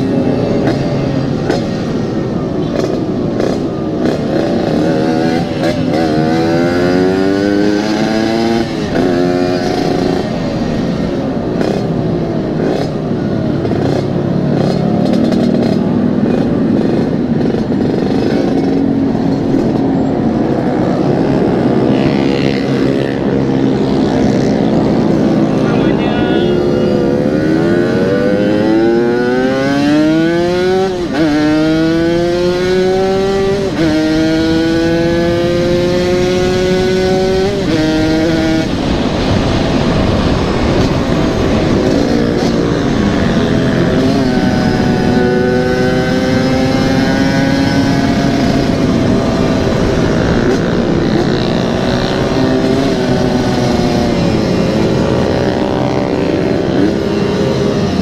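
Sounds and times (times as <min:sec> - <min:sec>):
motorcycle accelerating: 0:00.0 - 0:58.0.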